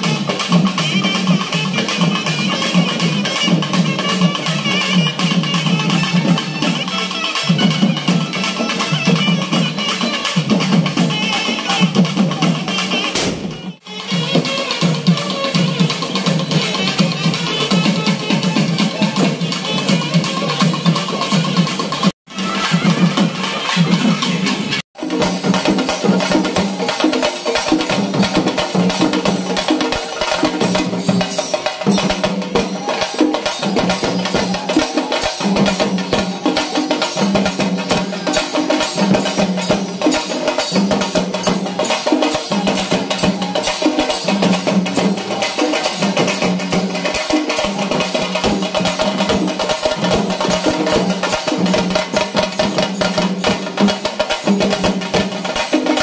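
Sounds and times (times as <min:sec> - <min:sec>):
rapid drumming: 0:00.0 - 0:56.0.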